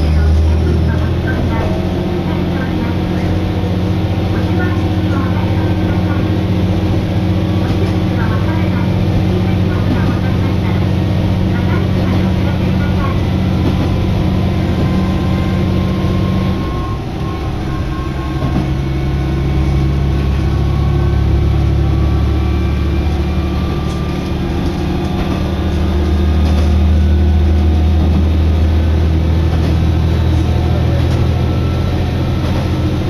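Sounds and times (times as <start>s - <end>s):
railcar engine drone: 0.0s - 33.0s
train running noise: 0.0s - 33.0s.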